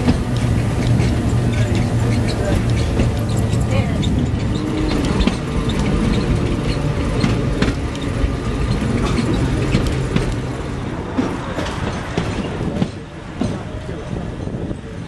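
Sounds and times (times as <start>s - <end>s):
tram car rattling and clicking: 0.0s - 15.0s
tram wheels rumbling on rails: 0.0s - 15.0s.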